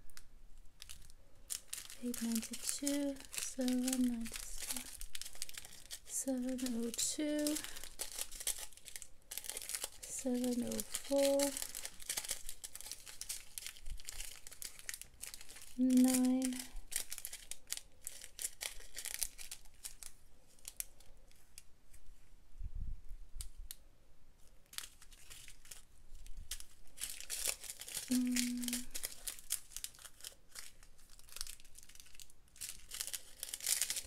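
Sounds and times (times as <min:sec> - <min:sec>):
plastic bags crinkling: 0:00.0 - 0:21.6, 0:24.6 - 0:34.0.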